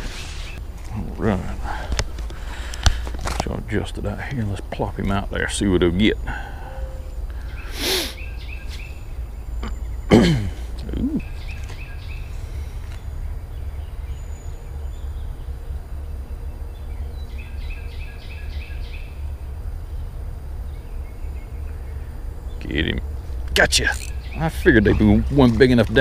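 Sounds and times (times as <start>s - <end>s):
low outdoor rumble: 0.0s - 26.0s
bird chirping: 3.5s - 26.0s.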